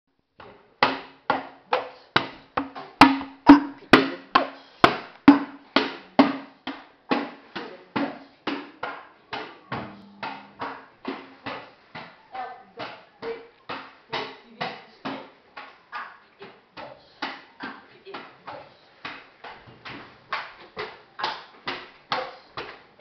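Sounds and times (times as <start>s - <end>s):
sharp rhythmic knocks: 0.8s - 22.7s.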